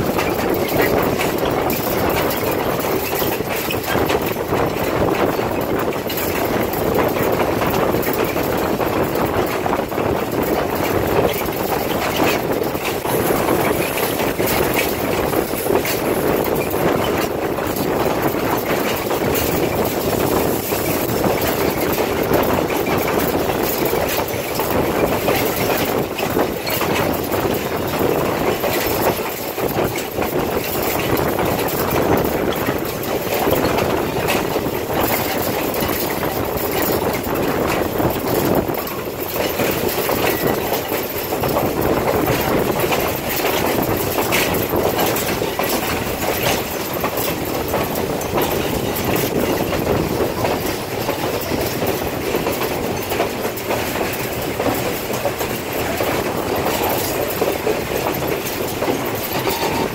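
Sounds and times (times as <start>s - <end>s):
train rumbling along track: 0.0s - 59.9s.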